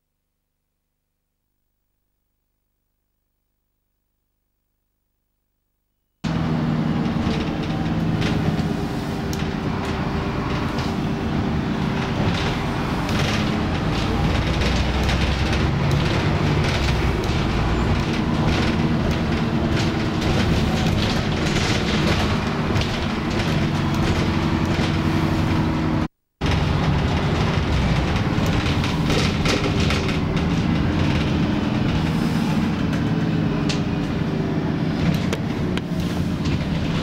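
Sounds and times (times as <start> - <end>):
bus engine drone: 6.2 - 37.0
rattles and knocks from bus body: 6.3 - 37.0.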